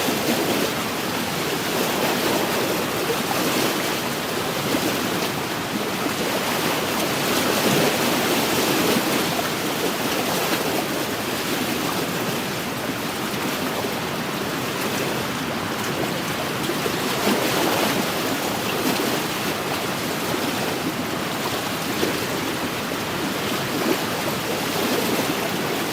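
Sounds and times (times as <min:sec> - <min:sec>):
waves lapping against shore: 0:00.0 - 0:25.9.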